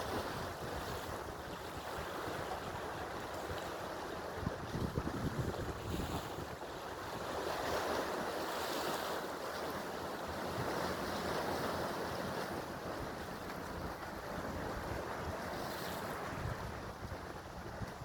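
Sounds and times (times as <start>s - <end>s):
sea waves rushing: 0.0s - 18.0s
wind: 0.0s - 18.0s.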